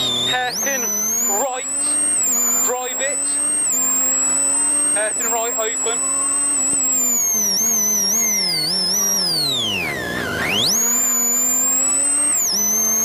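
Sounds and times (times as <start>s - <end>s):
high whine: 0.0s - 13.0s
rally car engine revving: 0.0s - 13.0s.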